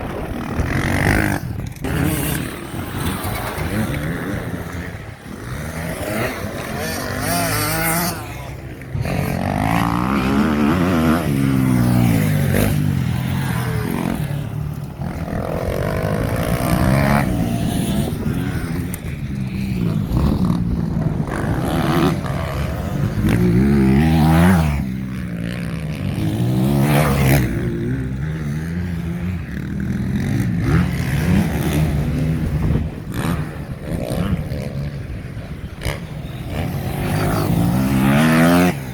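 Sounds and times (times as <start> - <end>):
motocross bikes racing past: 0.0 - 38.9.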